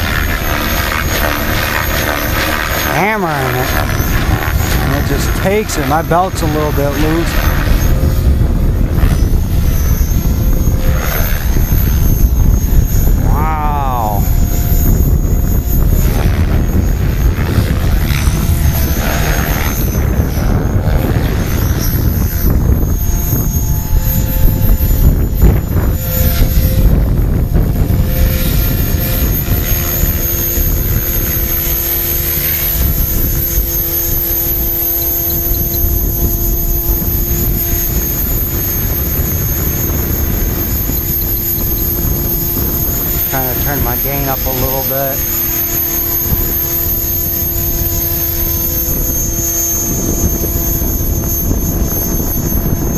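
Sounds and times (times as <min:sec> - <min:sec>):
heavy low rumble: 0:00.0 - 0:52.9
rc helicopter rotor whine: 0:00.0 - 0:52.9.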